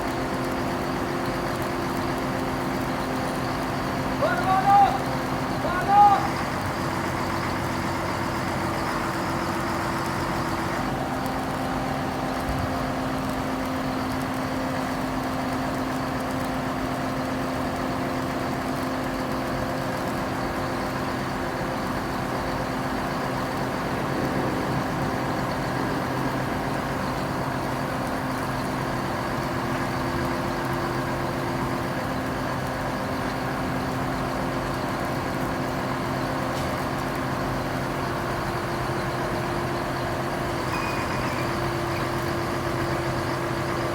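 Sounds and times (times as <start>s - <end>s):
large engine idling: 0.0s - 43.9s.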